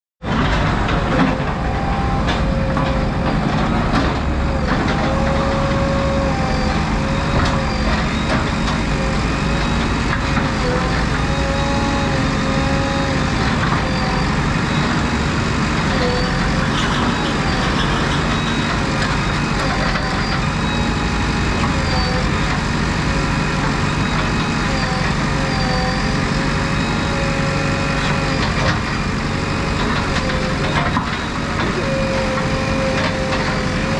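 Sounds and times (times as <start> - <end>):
diesel engine running: 0.2 - 33.9
wavering hydraulic whine: 0.6 - 33.9.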